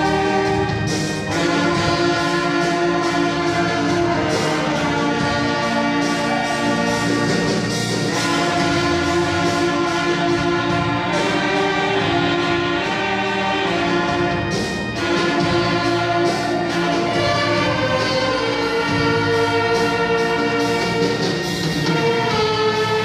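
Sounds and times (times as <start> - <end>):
orchestra with brass playing hymn: 0.0 - 23.0.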